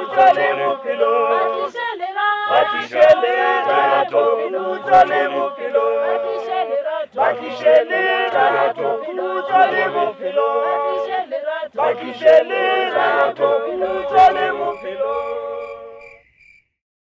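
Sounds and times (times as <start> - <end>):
a cappella choir singing: 0.0 - 16.2.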